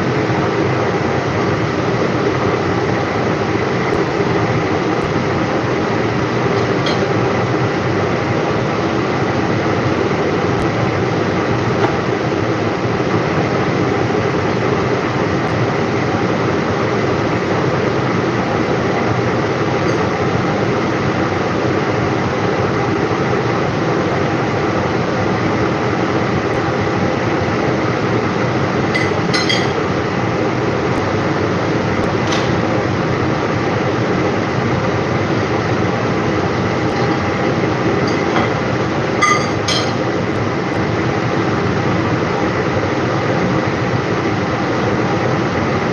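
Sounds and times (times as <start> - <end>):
rushing stove noise: 0.0 - 45.9.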